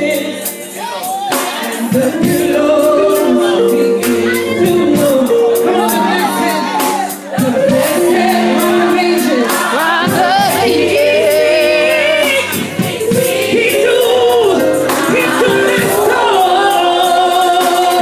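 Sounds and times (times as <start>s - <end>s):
women singing gospel: 0.0s - 18.0s
steady beat: 0.1s - 18.0s
keyboard chords: 1.8s - 18.0s.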